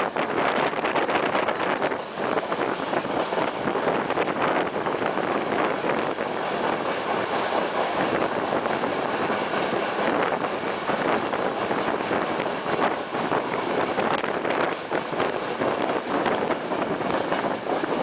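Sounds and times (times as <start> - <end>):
train wheels on rails: 0.0 - 18.0
wind buffeting microphone: 0.0 - 18.0.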